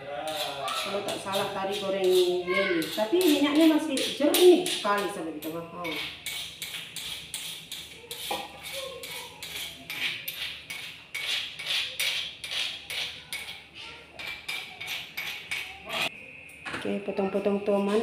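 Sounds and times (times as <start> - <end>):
pestle grinding in mortar: 0.2 - 16.1.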